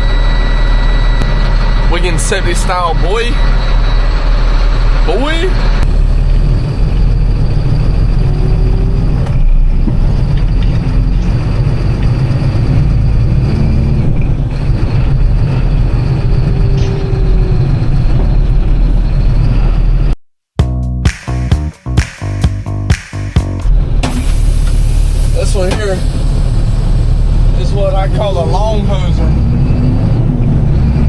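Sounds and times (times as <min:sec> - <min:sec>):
truck engine and road rumble: 0:00.0 - 0:20.2, 0:23.5 - 0:31.0.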